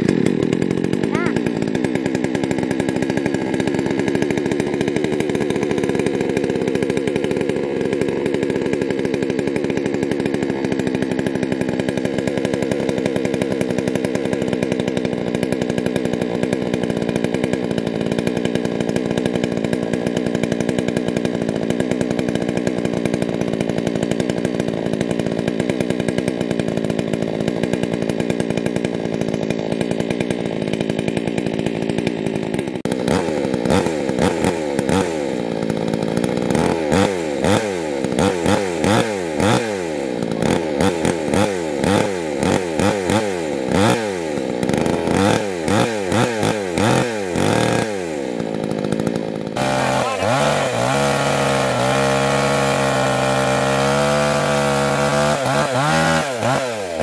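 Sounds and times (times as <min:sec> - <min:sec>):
chainsaw idling and revving: 0:00.0 - 0:57.0.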